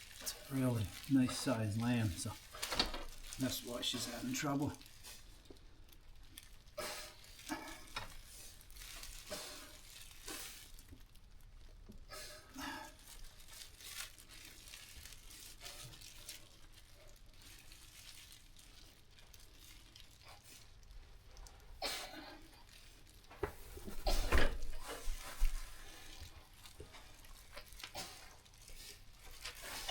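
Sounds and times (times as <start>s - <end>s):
faint rustling and scraping: 0.0s - 11.2s, 12.2s - 29.9s.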